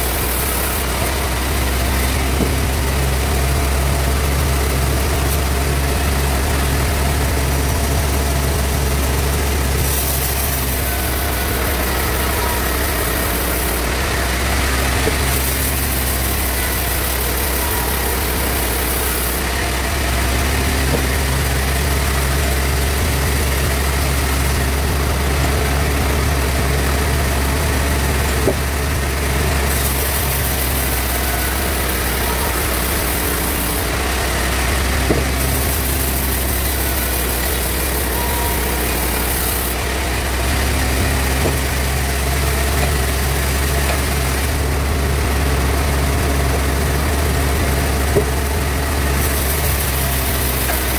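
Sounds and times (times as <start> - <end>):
bandsaw machinery humming: 0.0 - 50.9.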